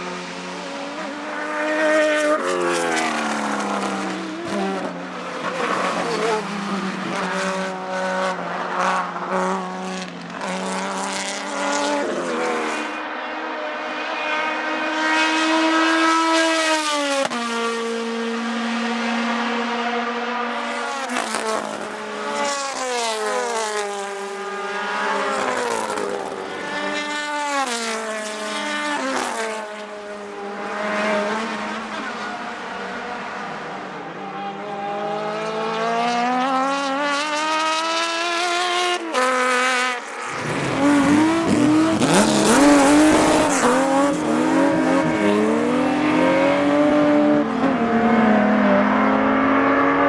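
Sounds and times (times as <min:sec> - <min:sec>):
racing car engine revving: 0:00.0 - 0:50.0.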